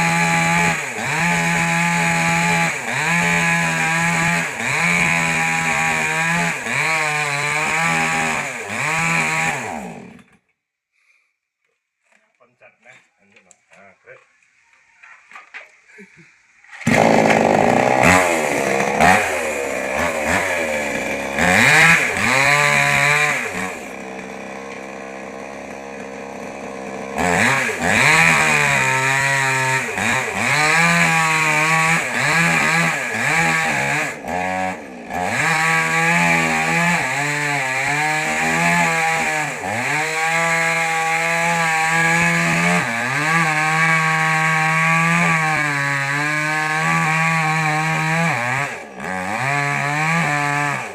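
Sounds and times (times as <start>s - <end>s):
chainsaw cutting wood: 0.0s - 10.5s, 16.7s - 50.9s.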